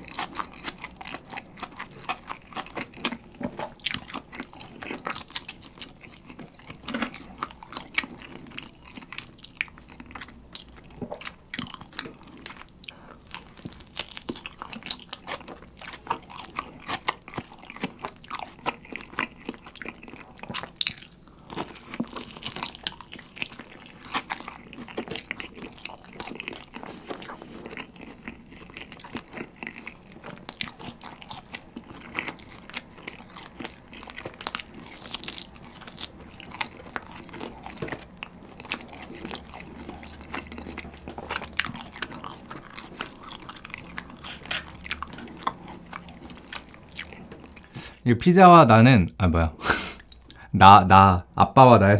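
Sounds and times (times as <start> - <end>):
chewing pizza crust crunches: 0.0 - 47.8.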